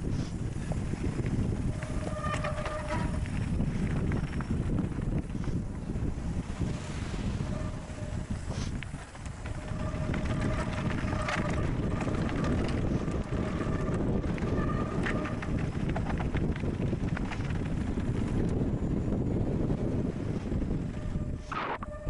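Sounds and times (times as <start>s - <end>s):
bike clicks and rattles: 0.0s - 22.0s
tyres rumbling over ground: 0.0s - 22.0s
wind buffeting microphone: 0.0s - 22.0s.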